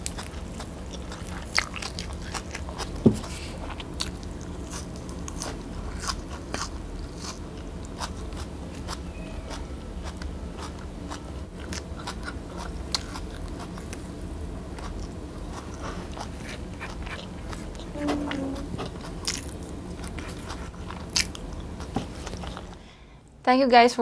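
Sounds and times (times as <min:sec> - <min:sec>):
chewing and mouth sounds: 0:00.0 - 0:14.0, 0:14.7 - 0:22.8
low hum: 0:00.0 - 0:23.5.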